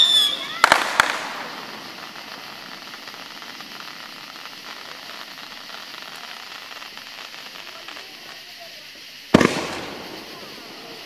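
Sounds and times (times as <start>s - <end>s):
faint crackling hiss: 0.0s - 11.0s
firework burst: 0.0s - 11.0s.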